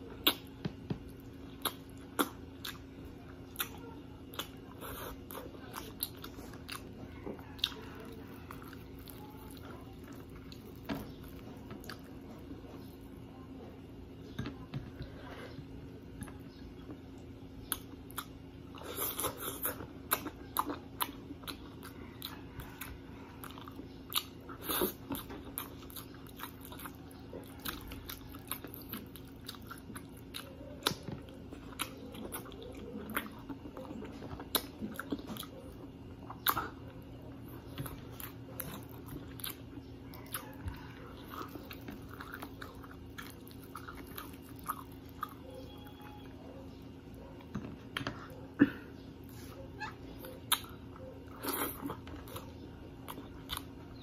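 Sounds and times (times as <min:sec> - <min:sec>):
person chewing and crunching food: 0:00.0 - 0:13.4, 0:14.2 - 0:54.0.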